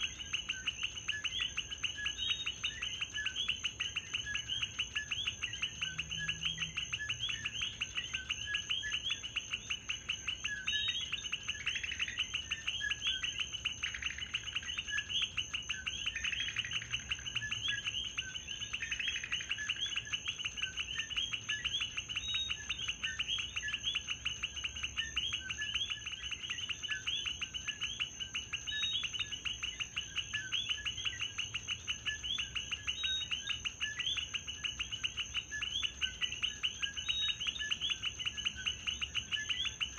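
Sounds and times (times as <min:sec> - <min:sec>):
frogs chirping: 0:00.0 - 0:39.9.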